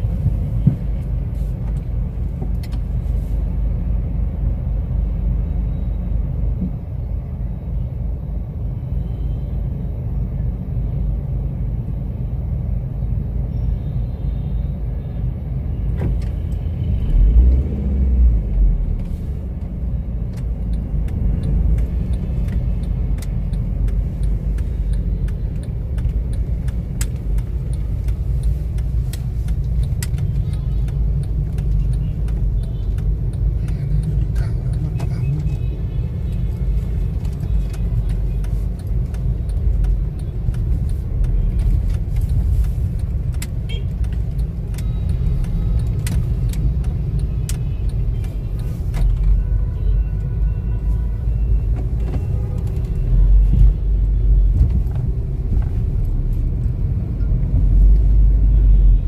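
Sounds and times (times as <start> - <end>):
cars and motorbikes idling and moving: 0.0 - 59.0.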